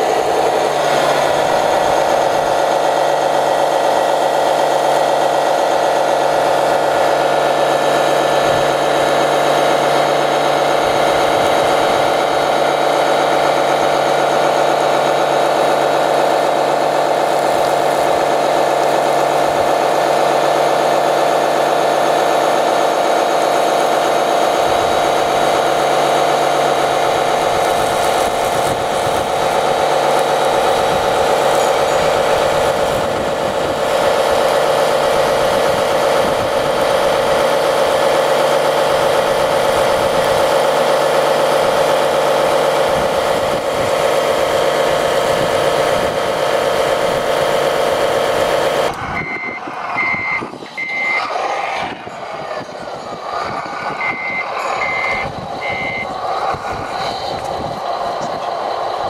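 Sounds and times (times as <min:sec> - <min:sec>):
water and foam spraying: 0:00.0 - 0:49.1, 0:56.2 - 0:59.0
electric water pump motors whining: 0:00.0 - 0:59.0.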